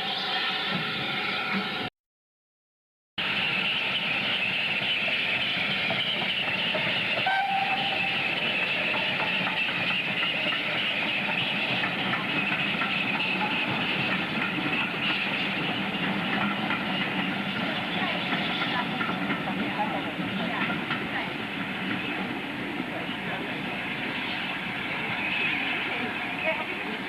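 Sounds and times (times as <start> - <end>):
train wheels rumbling on track: 0.0 - 1.9, 3.2 - 27.0.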